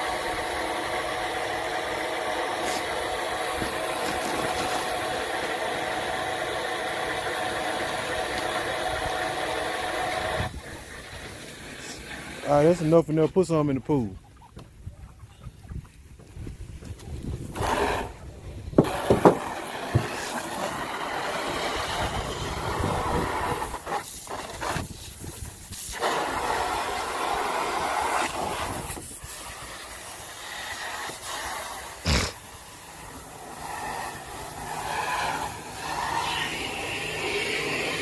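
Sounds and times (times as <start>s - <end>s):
hose water running into pool: 0.0s - 13.1s, 17.4s - 18.2s, 18.8s - 38.0s.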